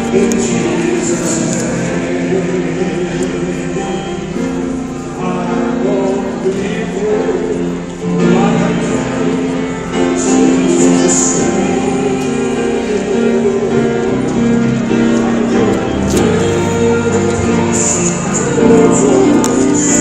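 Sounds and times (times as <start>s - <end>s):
choir singing gospel with instruments: 0.0s - 20.0s.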